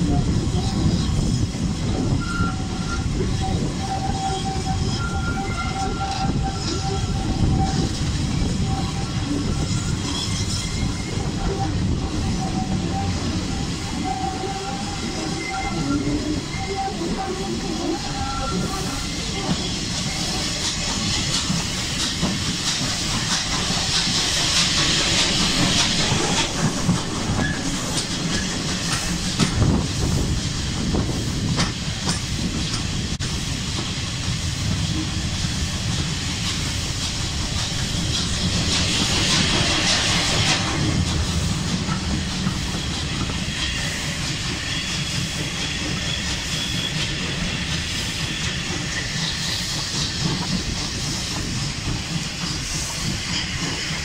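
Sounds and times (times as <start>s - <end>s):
rumble of train coaches: 0.0s - 54.0s
steam locomotive hissing: 0.0s - 54.0s.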